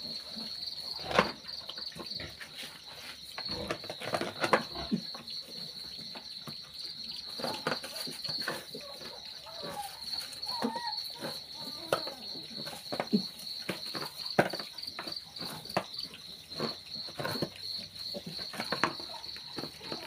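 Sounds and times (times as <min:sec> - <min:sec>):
insect chirping trill: 0:00.0 - 0:20.0
piglets eating from plastic dish: 0:00.0 - 0:20.0.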